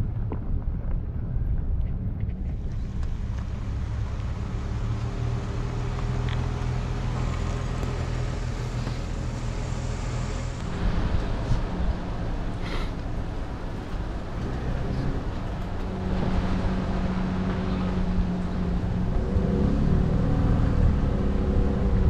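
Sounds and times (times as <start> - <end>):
truck engine hum: 0.0 - 22.0.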